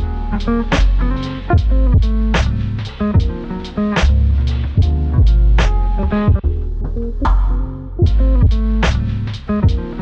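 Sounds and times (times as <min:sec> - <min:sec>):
bass: 0:00.0 - 0:10.0
drum kit: 0:00.0 - 0:10.0.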